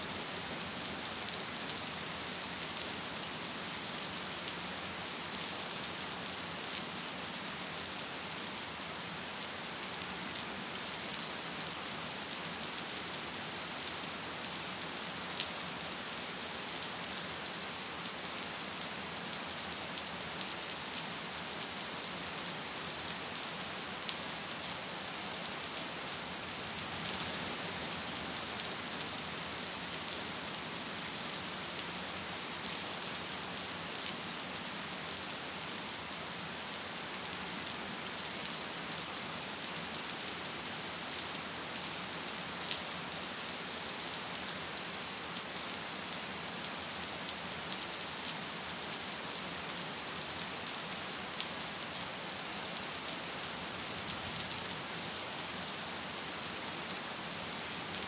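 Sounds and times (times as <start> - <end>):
gentle rain hiss: 0.0 - 58.0.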